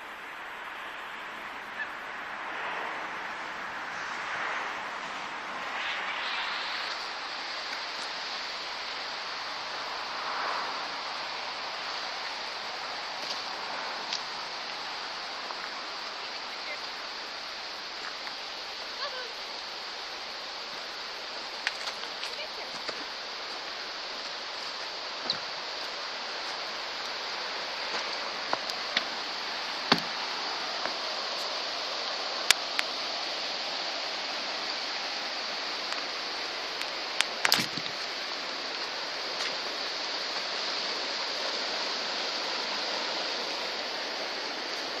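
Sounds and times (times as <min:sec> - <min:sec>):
river rushing: 0:00.0 - 0:45.0.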